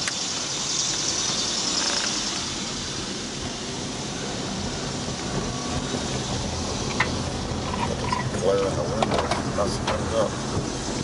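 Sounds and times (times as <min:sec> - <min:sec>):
car engine running: 0:00.0 - 0:11.0
road and wind noise: 0:00.0 - 0:11.0.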